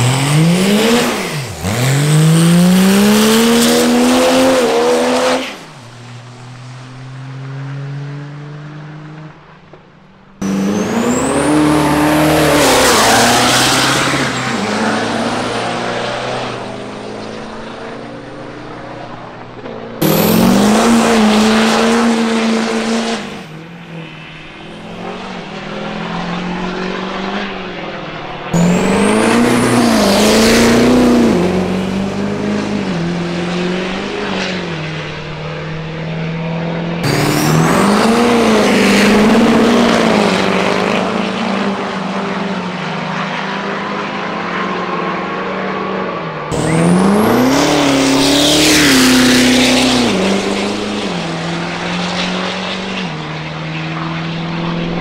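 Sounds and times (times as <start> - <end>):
diesel trucks racing: 0.0 - 55.0.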